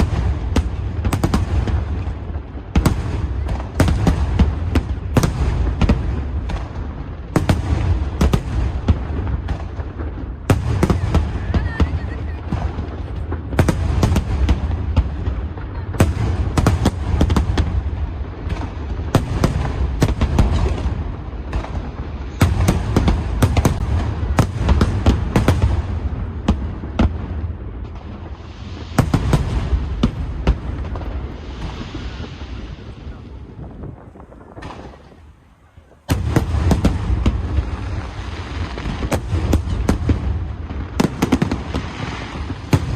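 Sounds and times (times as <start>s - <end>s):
fireworks sharp cracks: 0.0s - 42.9s.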